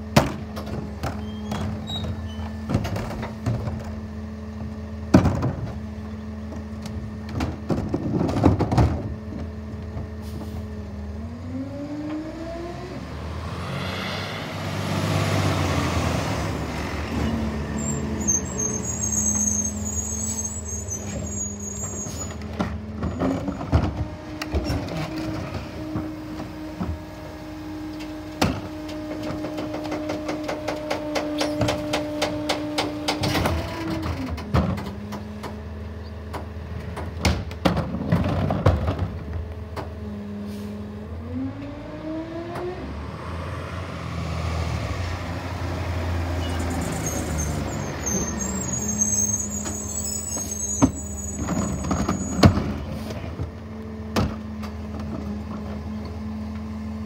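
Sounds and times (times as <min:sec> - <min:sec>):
diesel engine idling and revving: 0:00.0 - 0:57.0.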